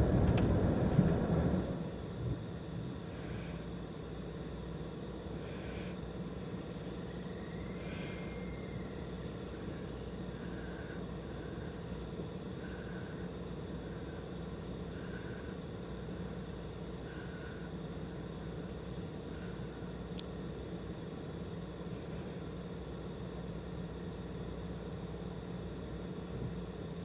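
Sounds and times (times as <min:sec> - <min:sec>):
car hum and hiss: 0:00.0 - 0:27.0.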